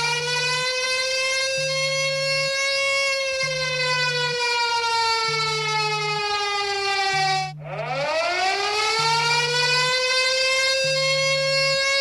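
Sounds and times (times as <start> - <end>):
wailing alarm tone: 0.0 - 12.0
pulsing low buzz: 1.5 - 12.0.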